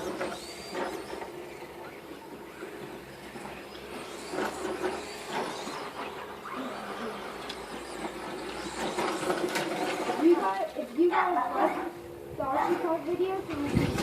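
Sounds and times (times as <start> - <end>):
small electric motor whirring: 0.0 - 12.0.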